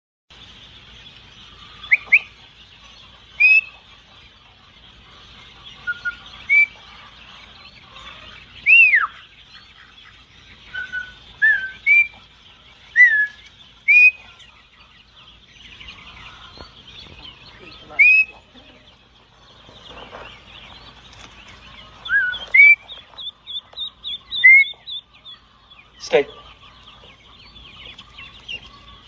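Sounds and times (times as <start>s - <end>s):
ducklings peeping: 0.3s - 29.0s.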